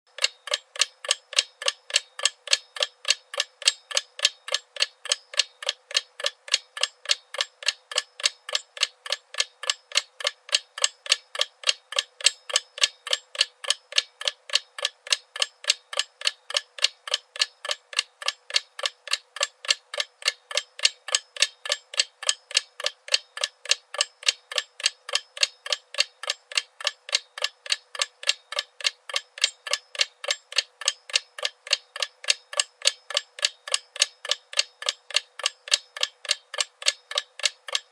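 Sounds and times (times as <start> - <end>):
clock ticking: 0.1 - 37.9.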